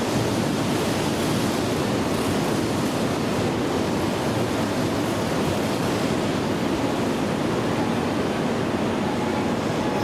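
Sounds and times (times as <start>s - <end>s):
railway station rushing noise: 0.0s - 10.0s.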